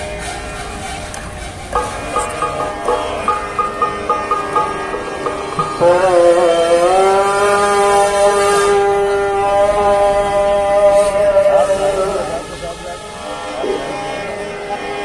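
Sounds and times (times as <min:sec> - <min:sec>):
harmonium playing: 0:00.0 - 0:15.0.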